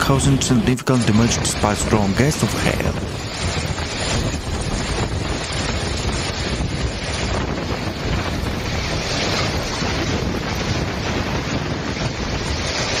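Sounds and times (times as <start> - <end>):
hail and heavy rain on street: 0.0 - 13.0
wind buffeting microphone: 0.0 - 13.0.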